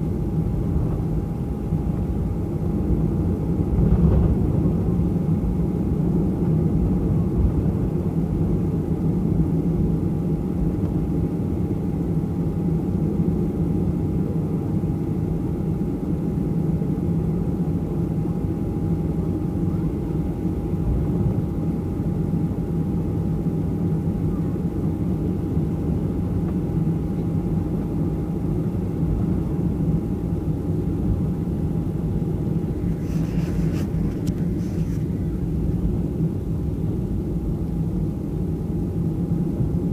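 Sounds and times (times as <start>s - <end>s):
faint steady whine: 0.0s - 39.9s
jet engines low rumble: 0.0s - 39.9s.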